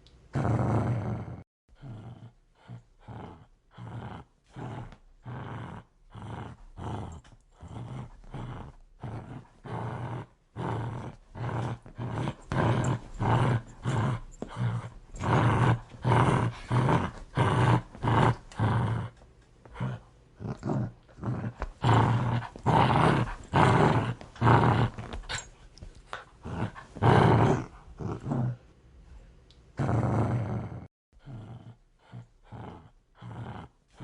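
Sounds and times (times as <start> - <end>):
dog growling: 0.3 - 25.5, 26.1 - 28.6, 29.8 - 34.0.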